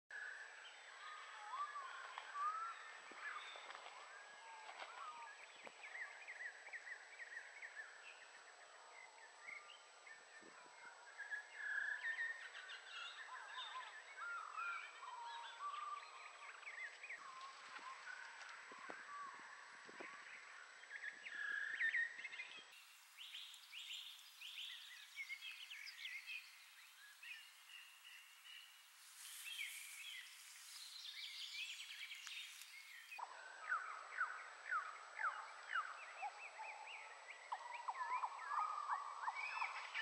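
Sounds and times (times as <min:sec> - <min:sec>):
birdsong whistles and glides: 0:00.1 - 0:40.0.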